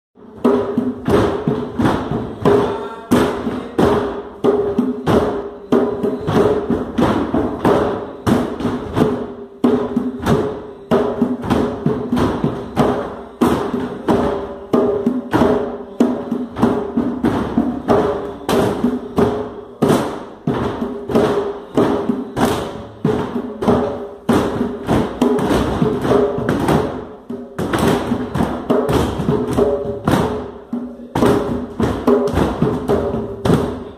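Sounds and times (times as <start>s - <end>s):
rapid drum strikes: 0.2s - 33.9s.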